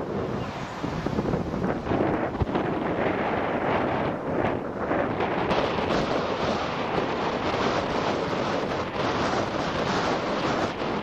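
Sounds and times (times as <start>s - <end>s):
jet noise rushing: 0.0s - 11.0s
wind buffeting microphone: 0.0s - 11.0s.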